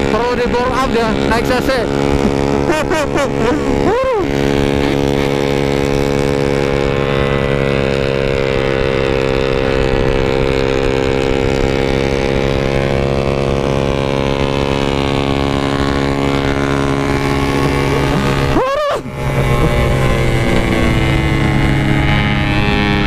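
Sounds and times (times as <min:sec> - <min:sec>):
motorcycle engine labouring uphill: 0:00.0 - 0:23.0.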